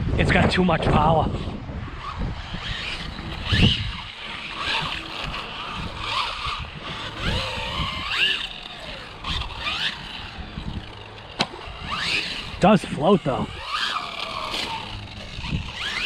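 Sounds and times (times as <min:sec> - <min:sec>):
tyre and wind noise: 0:00.0 - 0:16.0
electric motor whining: 0:01.3 - 0:16.0.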